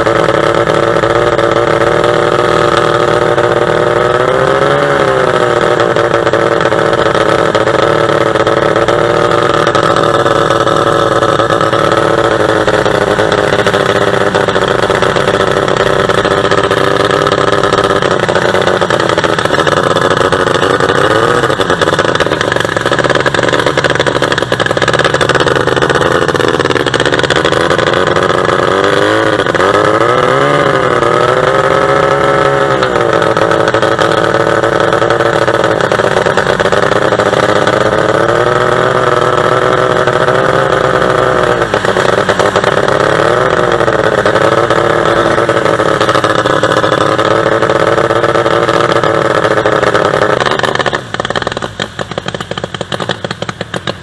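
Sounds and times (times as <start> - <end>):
boat engine running hard: 0.0 - 54.0.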